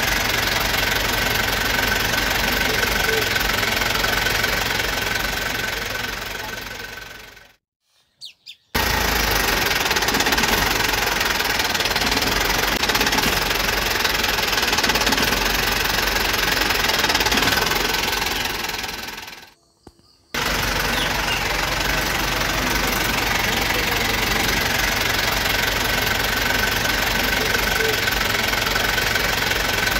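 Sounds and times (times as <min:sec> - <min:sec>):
engine running: 0:00.0 - 0:07.6, 0:08.8 - 0:19.6, 0:20.4 - 0:29.9.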